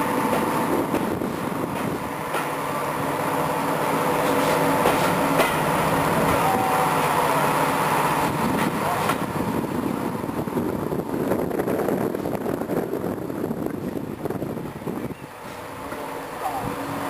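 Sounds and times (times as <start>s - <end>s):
diesel locomotive engines under load: 0.0s - 17.0s
train coaches rolling on rails: 0.0s - 17.0s.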